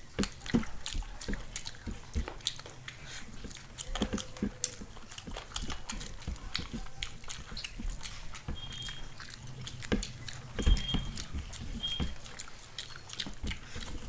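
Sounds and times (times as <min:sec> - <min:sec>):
people chewing and lip-smacking: 0:00.0 - 0:14.0.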